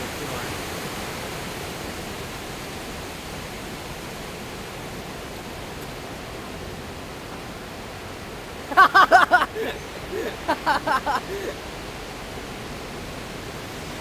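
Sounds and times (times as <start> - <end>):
small waves breaking on sand: 0.0 - 14.0.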